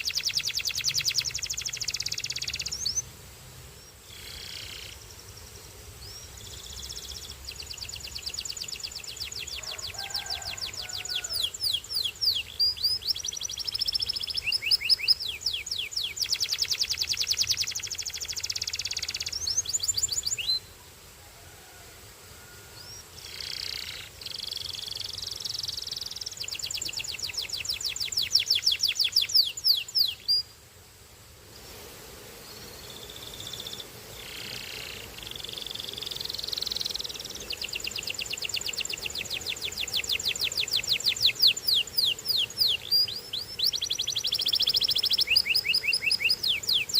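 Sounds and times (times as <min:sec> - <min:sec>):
canary singing trills: 0:00.0 - 0:03.1, 0:06.0 - 0:20.7, 0:22.8 - 0:30.5, 0:32.7 - 0:46.9.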